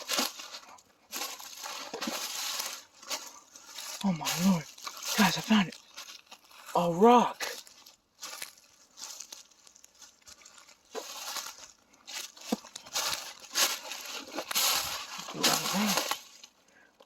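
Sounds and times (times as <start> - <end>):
footsteps crunching dry leaves: 0.0 - 16.6.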